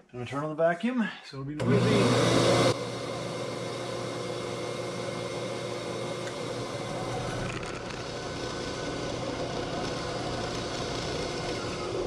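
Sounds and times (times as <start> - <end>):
shop vacuum running: 1.6 - 12.0.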